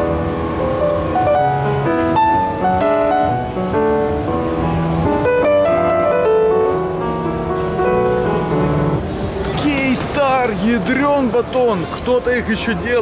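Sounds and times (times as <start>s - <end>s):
grand piano melody: 0.0s - 11.6s.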